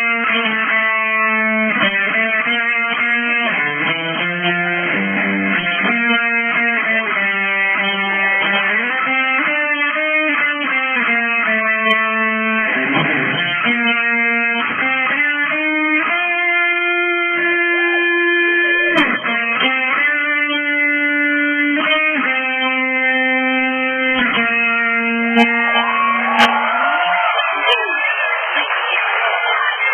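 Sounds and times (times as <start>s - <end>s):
strummed guitar chords: 0.0s - 28.9s
electric guitar playing: 0.0s - 29.9s.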